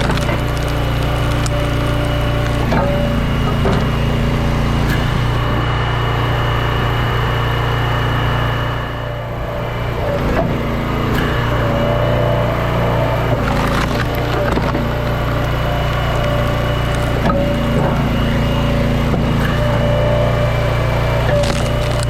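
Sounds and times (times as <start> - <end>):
wood cracking and splintering: 0.0 - 5.7, 9.2 - 22.0
log splitter running: 0.0 - 22.0.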